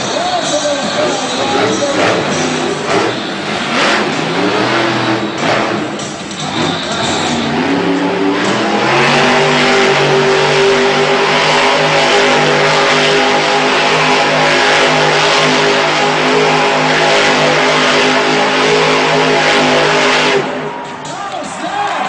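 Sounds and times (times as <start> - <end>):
monster truck engine revving: 0.0 - 21.3
dense roar of noise: 0.0 - 21.9.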